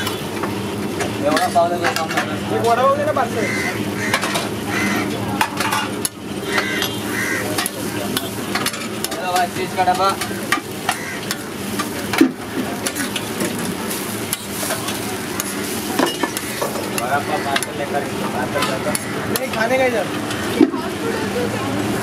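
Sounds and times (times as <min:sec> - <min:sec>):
food sizzling on a griddle: 0:00.0 - 0:22.0.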